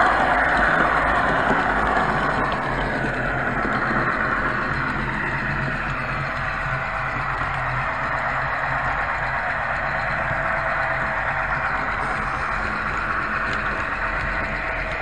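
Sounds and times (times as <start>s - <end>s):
diesel engine sound from small speaker: 0.0s - 15.0s
model train running on track: 0.0s - 15.0s.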